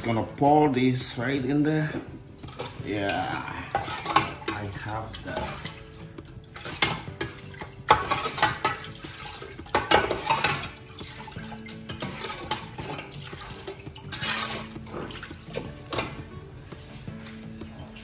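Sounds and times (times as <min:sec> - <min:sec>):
ladle scraping metal pot: 0:01.8 - 0:18.0
soup sloshing and splashing: 0:01.9 - 0:02.9, 0:03.5 - 0:18.0.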